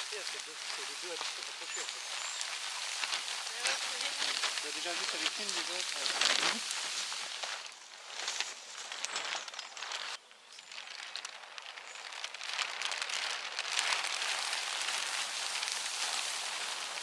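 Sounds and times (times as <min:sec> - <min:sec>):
plastic tarp crackling: 0:00.0 - 0:17.0.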